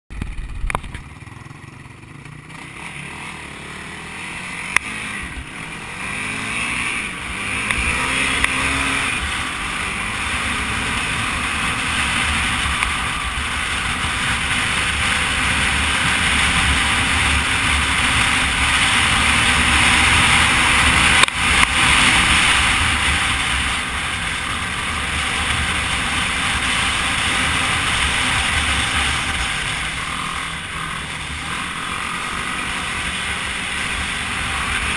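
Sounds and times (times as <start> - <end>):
quad engine revving: 0.2 - 34.9.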